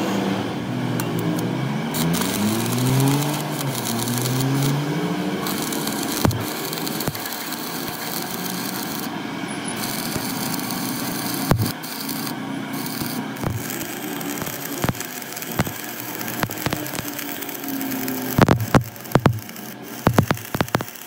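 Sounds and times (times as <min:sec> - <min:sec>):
welding arc crackling and sizzling: 0:01.0 - 0:21.0
sharp welding pops: 0:02.0 - 0:04.8, 0:05.4 - 0:09.1, 0:09.7 - 0:21.0.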